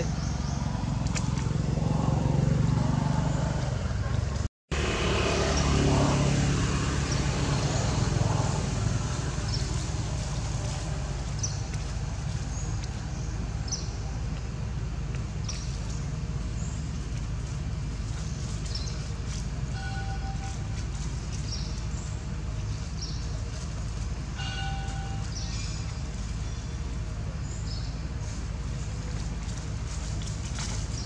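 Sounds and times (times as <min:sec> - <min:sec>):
motor vehicles passing: 0:00.0 - 0:31.0.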